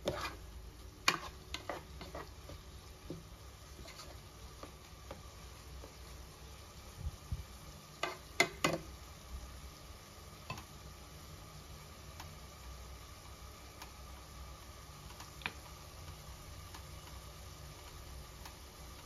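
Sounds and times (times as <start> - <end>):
pot simmering hiss: 0.0 - 19.0.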